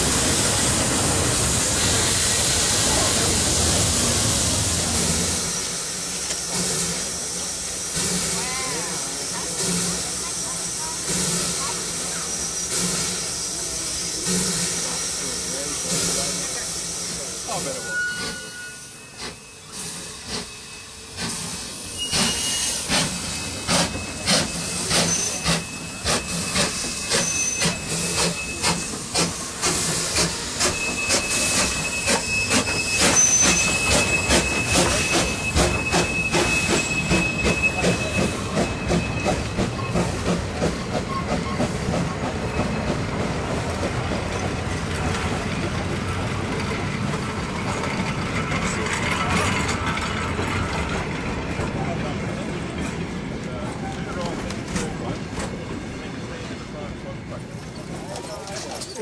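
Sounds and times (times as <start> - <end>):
steam locomotive exhaust chuffs: 0.0 - 53.5.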